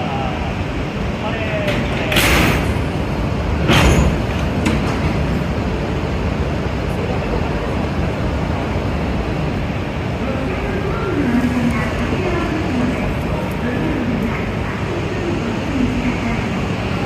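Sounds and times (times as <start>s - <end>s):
standing train rumble and hum: 0.0s - 17.0s.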